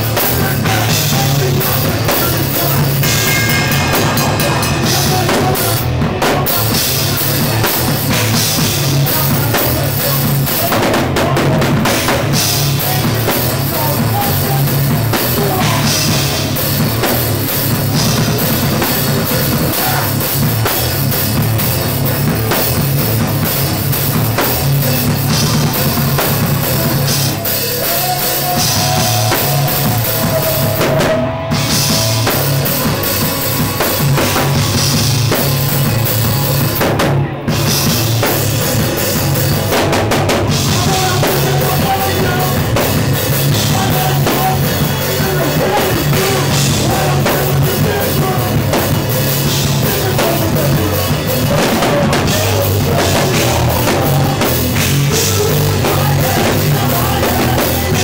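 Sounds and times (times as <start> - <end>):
hardcore punk music with drums: 0.0 - 58.0.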